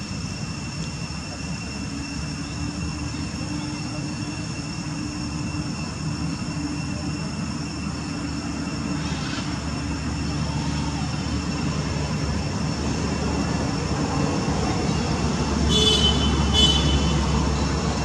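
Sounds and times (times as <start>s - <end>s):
high-pitched whines: 0.0s - 15.7s
low engine-like drone: 0.0s - 18.0s.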